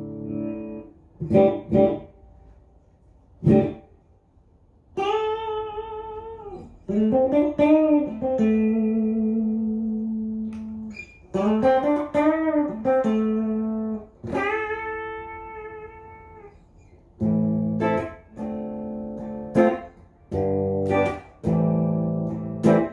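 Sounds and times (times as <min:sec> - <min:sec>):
clean electric guitar: 0:00.0 - 0:04.0, 0:04.9 - 0:22.9.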